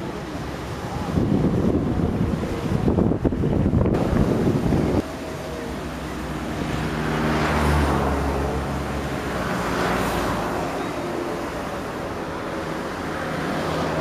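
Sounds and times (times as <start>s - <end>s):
aircraft engines droning: 0.0s - 14.0s
rushing of passing aircraft: 1.7s - 14.0s.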